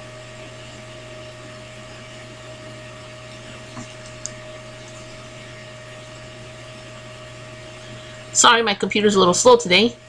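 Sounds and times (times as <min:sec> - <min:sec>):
fan or motor hum: 0:00.0 - 0:10.0.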